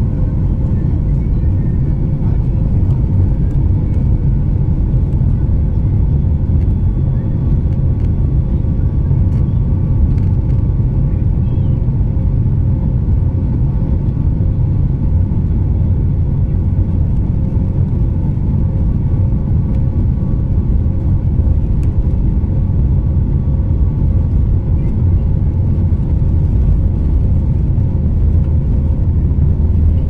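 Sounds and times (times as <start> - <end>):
low rumble of engines and wheels: 0.0 - 30.0.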